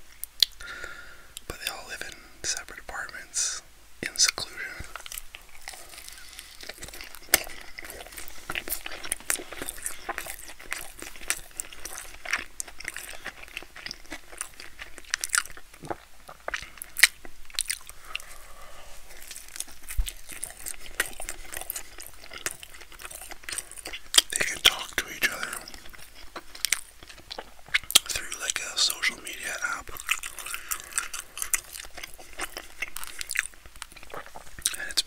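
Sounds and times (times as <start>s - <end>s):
crackly chewing: 4.0s - 35.0s.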